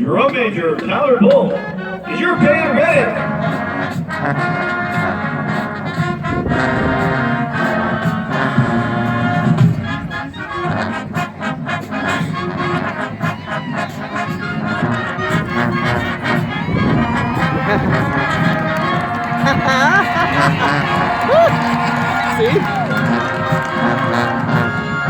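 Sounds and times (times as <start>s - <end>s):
marching band brass melody: 0.0s - 25.0s.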